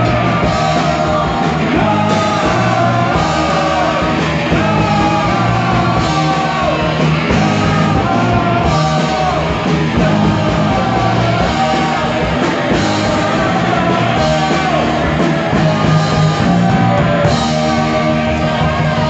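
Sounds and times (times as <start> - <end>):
drum kit: 0.0 - 19.0
electric guitars: 0.0 - 19.0
man singing into microphone: 0.0 - 19.0.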